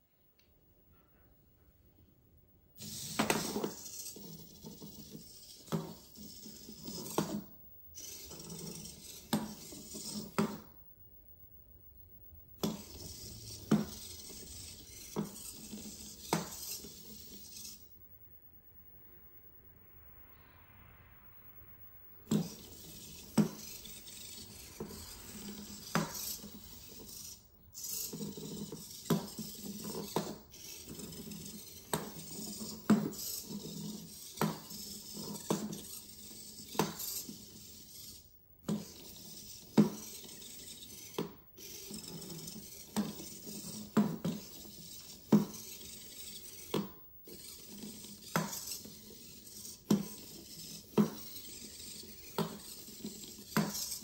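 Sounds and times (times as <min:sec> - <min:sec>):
servo hum: 0:02.8 - 0:18.4, 0:22.2 - 0:54.0.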